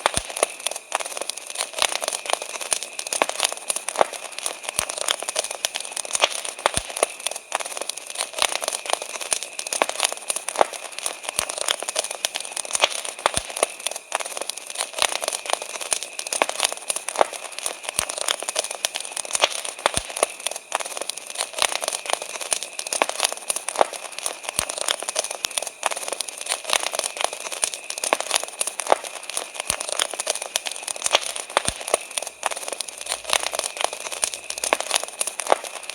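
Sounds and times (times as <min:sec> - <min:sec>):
campfire crackling: 0:00.0 - 0:35.9.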